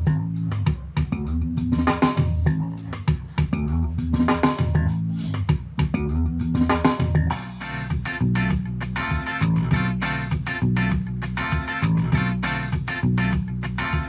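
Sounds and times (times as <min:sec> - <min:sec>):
song with guitar and bass: 0:00.0 - 0:14.0.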